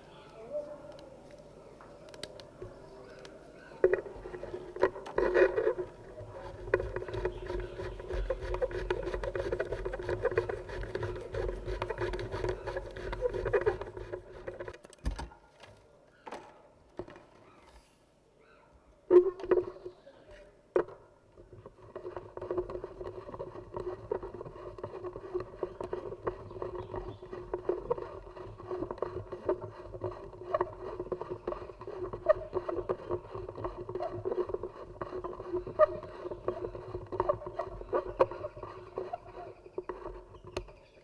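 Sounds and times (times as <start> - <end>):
bamboo strips creaking and crackling: 0.0 - 17.9, 19.0 - 41.0.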